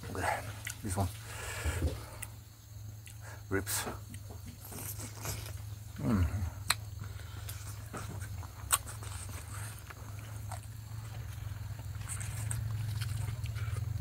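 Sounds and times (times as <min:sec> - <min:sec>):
steady low hum: 0:00.0 - 0:14.0
man chewing with mouth smacks: 0:00.2 - 0:01.2, 0:01.8 - 0:14.0.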